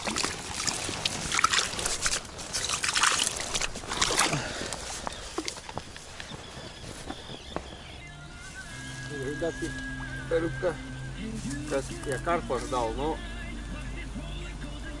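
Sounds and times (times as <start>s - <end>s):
dry grass rustling: 0.0s - 13.3s.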